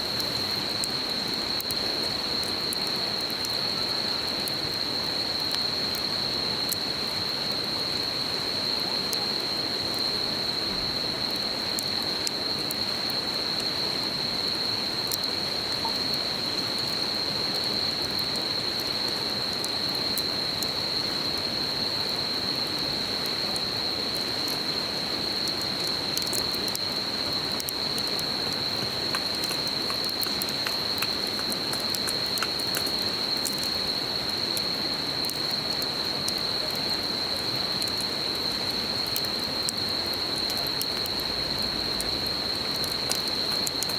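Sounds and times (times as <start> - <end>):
campfire crackling and popping: 0.0 - 43.9
insects trilling: 0.0 - 43.9.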